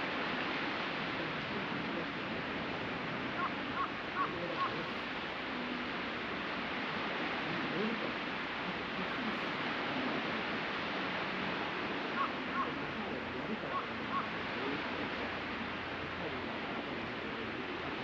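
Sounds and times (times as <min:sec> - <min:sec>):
sea surf on beach: 0:00.0 - 0:18.0.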